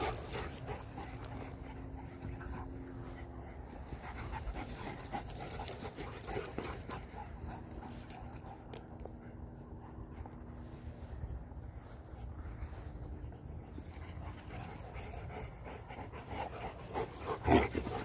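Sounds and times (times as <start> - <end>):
faint scuffling on grass: 0.0 - 15.3
dogs panting: 0.0 - 18.0.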